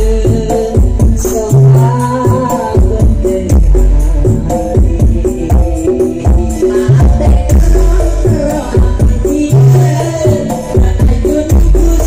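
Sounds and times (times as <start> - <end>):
loud music with heavy bass beat: 0.0 - 12.0.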